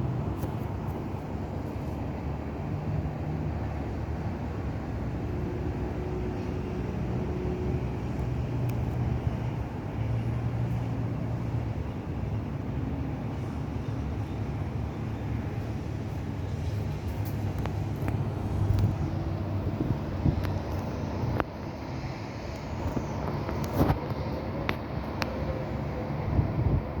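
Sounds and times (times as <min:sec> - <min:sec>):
distant traffic: 0:00.0 - 0:27.0
wind: 0:00.0 - 0:27.0.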